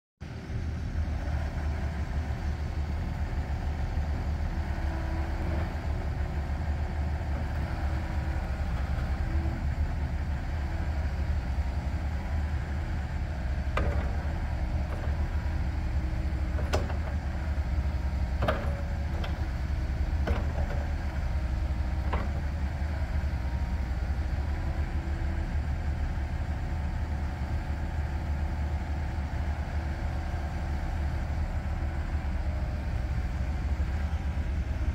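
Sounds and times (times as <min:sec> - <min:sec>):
excavator diesel engine droning: 0:00.2 - 0:34.9.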